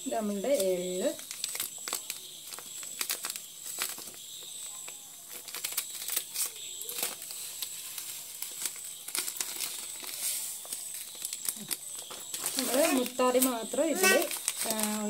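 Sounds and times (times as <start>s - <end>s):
plastic packet crinkling: 0.5s - 15.0s.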